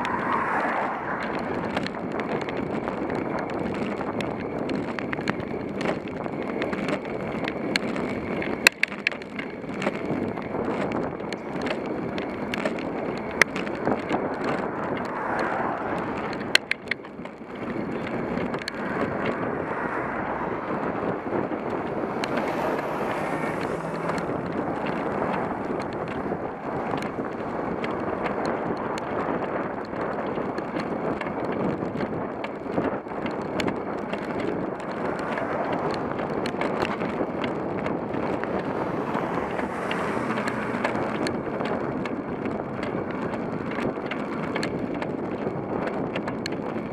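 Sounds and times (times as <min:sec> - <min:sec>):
cars passing close: 0:00.0 - 0:45.6
wind rush on microphone: 0:00.0 - 0:46.9.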